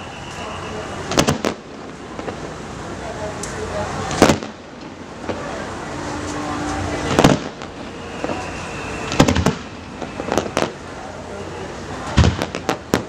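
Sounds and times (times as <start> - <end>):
crowd noise: 0.0 - 13.0
fireworks bursting: 0.0 - 13.0.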